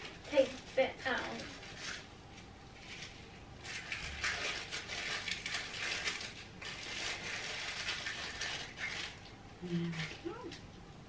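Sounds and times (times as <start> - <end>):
tissue paper crinkling: 0.0 - 9.3.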